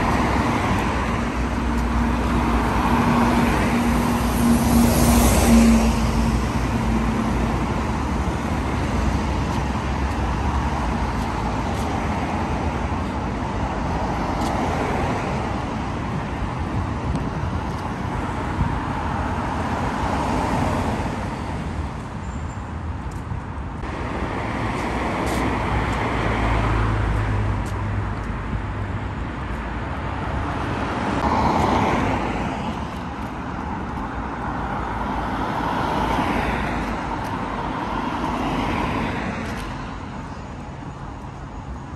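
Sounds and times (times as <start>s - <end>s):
road traffic rumble: 0.0s - 41.9s
vehicles passing close: 0.0s - 41.9s.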